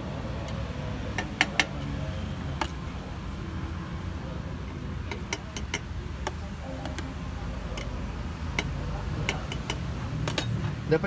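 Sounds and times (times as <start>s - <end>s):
low rumble of roadside traffic: 0.0s - 11.0s.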